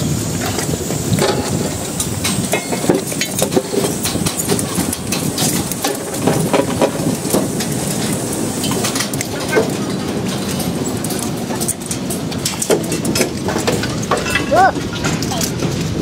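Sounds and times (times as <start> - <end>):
construction site background noise: 0.0 - 16.0
metal clicks and clinks: 1.2 - 16.0.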